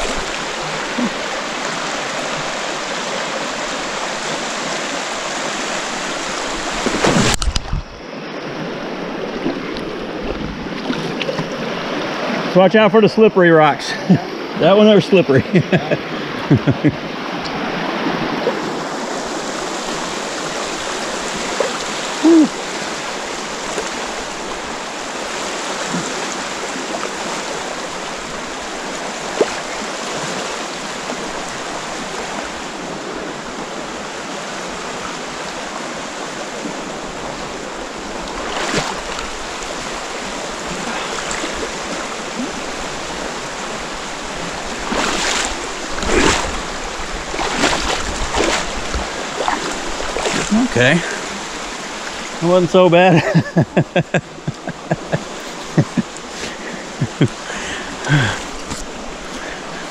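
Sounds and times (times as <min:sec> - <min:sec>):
wading splashes: 0:00.0 - 0:12.9, 0:13.8 - 0:59.9
river rushing over rocks: 0:00.0 - 0:15.4, 0:16.9 - 0:59.9.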